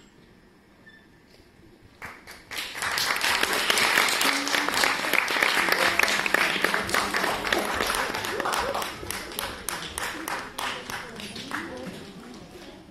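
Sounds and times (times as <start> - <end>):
audience applause: 2.0 - 12.4.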